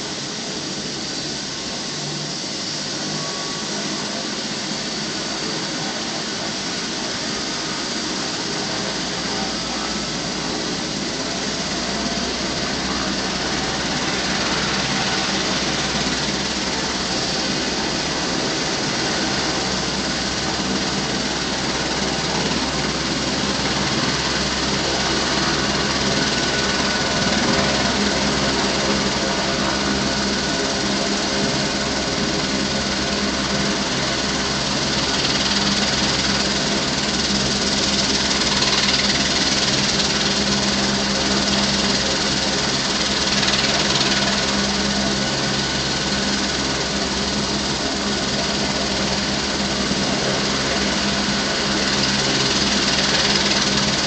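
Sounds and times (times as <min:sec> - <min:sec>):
helicopter engine hum with whine: 0:00.0 - 0:54.0.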